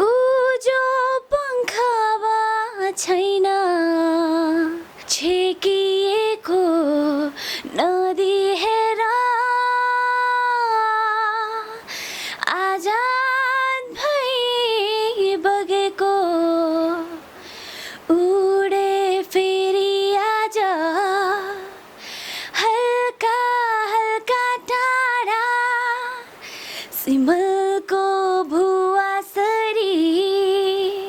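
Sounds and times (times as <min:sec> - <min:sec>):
woman singing solo: 0:00.0 - 0:17.3, 0:18.0 - 0:31.0.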